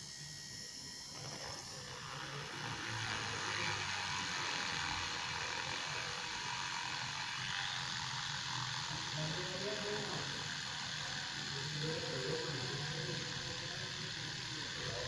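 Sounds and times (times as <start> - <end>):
mini drill whirring into wood: 0.0 - 15.0.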